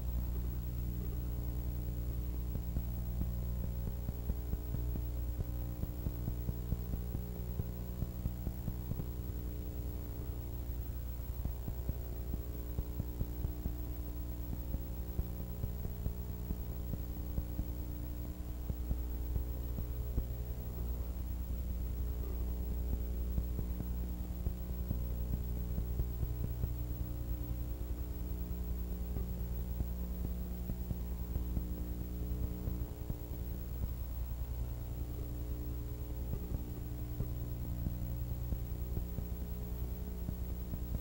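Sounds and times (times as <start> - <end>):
electrical mains hum: 0.0 - 41.0
faint constant crackle: 0.0 - 41.0.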